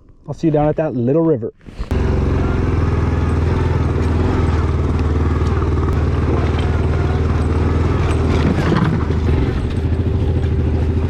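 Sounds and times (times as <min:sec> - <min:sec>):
atv engine running: 0:01.6 - 0:11.0
machine rattling over rough ground: 0:01.8 - 0:11.0.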